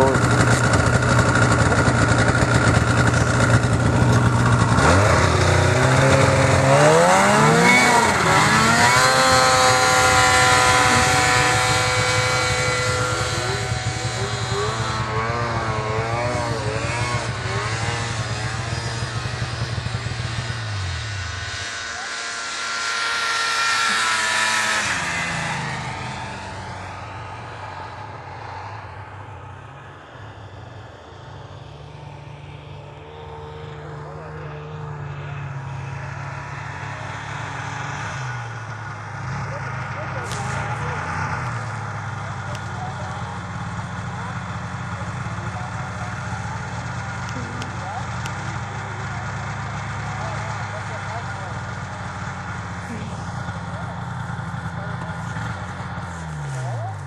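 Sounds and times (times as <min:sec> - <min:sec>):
passing snowmobile: 0:00.0 - 0:57.0
snowmobile engine running hard: 0:00.0 - 0:57.0.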